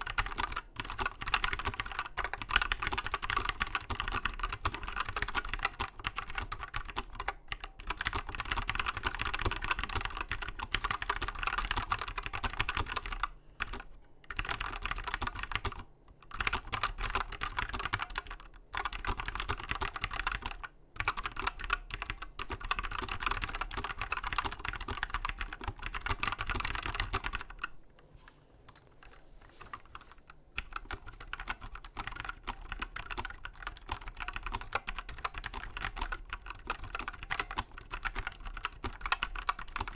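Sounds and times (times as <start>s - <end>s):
mechanical keyboard typing: 0.0s - 27.8s, 28.7s - 39.9s.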